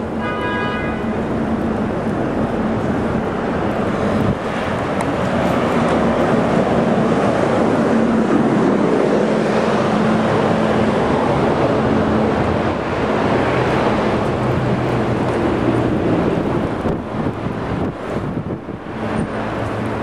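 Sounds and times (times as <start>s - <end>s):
vehicle engine hum: 0.0s - 20.0s
wind gusting across microphone: 0.0s - 20.0s.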